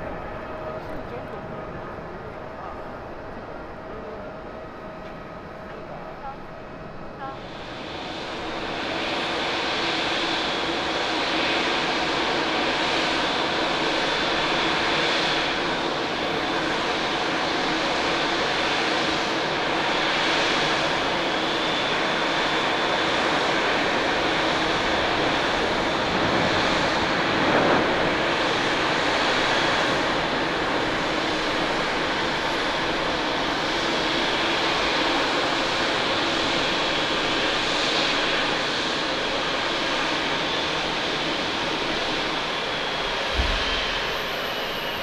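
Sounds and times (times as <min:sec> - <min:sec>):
high jet whine: 0:00.0 - 0:45.0
jet engine roar: 0:00.0 - 0:45.0.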